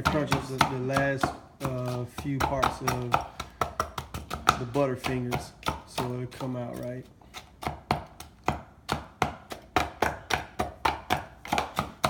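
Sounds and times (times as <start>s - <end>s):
knife chopping candy bars: 0.0s - 12.0s.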